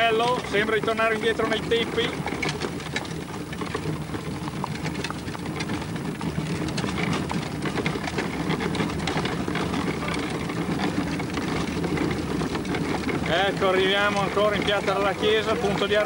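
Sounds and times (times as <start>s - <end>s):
carriage wheels rumbling on pavement: 0.0s - 16.0s
horse hooves trotting: 0.0s - 16.0s.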